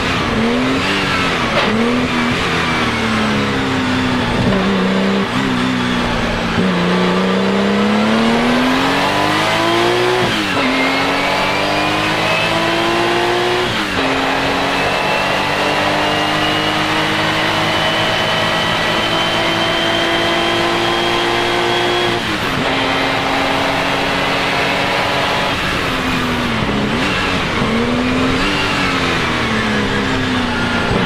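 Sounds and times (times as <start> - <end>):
racing engine revving: 0.0 - 31.0.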